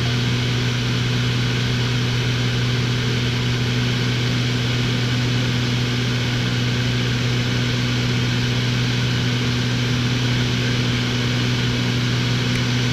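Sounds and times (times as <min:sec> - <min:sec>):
aircraft engine hum in cabin: 0:00.0 - 0:12.9.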